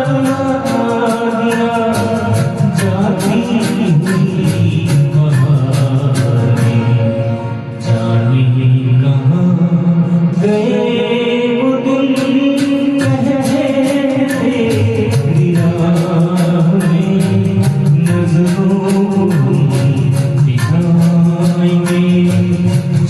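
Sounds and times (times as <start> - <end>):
steady ticking accompaniment: 0.0 - 8.2, 11.6 - 23.0
person singing slow song: 0.0 - 23.0.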